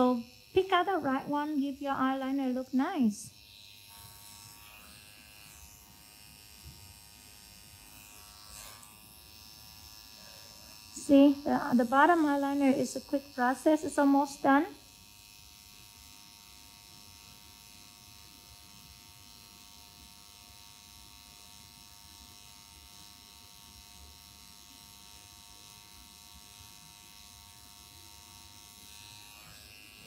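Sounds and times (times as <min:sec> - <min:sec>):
makeup machine buzzing faintly: 0:00.0 - 0:30.0.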